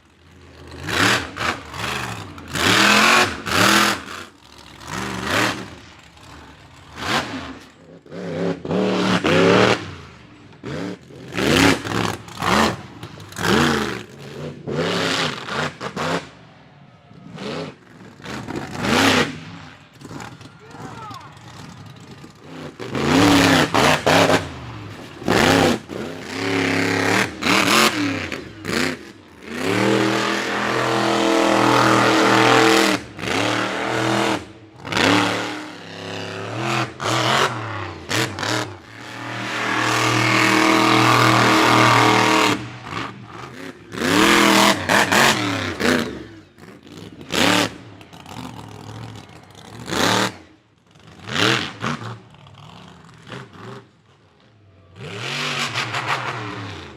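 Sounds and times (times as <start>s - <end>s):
monster truck engine revving: 0.1s - 56.9s.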